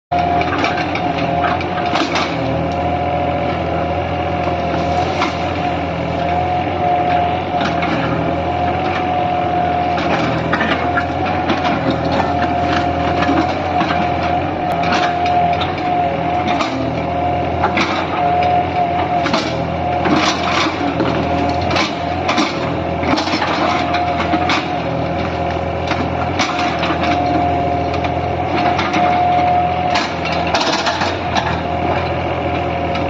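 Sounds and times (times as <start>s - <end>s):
heavy engine whining: 0.1s - 33.0s.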